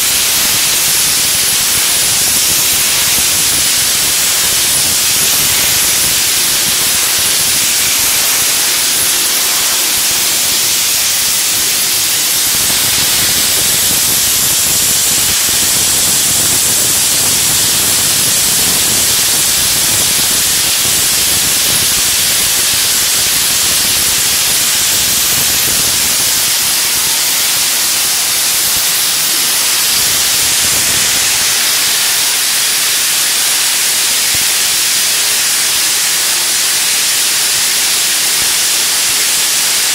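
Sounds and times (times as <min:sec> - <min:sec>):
blasting nozzle spraying hiss: 0:00.0 - 0:39.9.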